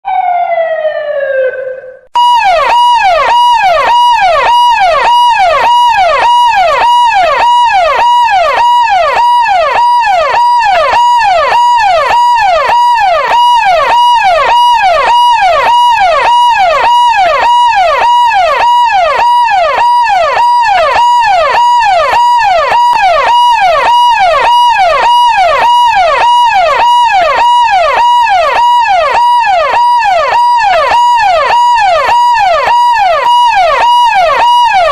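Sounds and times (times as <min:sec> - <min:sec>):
electronic police siren: 0:00.0 - 0:34.9.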